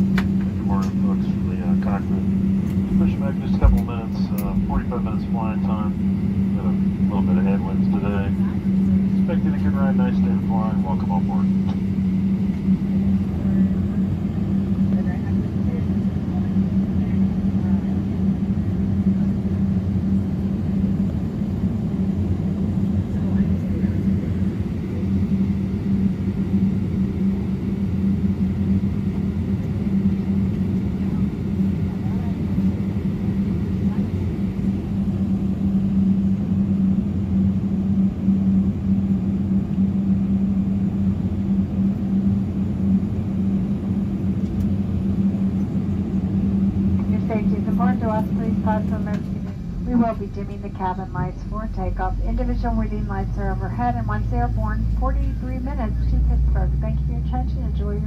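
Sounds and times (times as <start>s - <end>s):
aircraft cabin ventilation hum: 0.0s - 58.0s.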